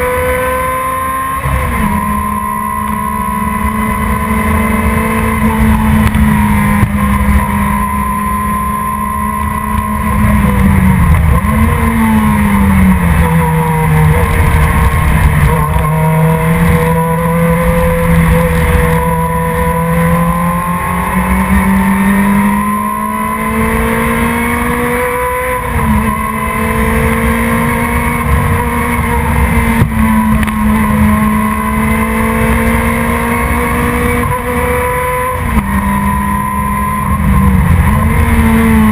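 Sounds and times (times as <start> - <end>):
sports car engine running hard: 0.0 - 38.9.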